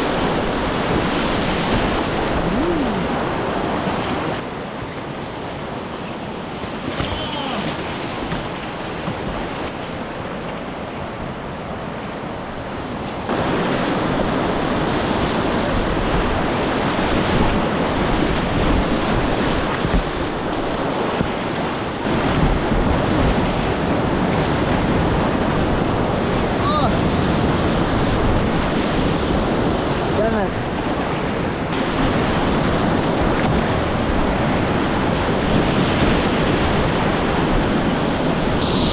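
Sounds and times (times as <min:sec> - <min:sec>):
river whitewater rushing: 0:00.0 - 0:38.9.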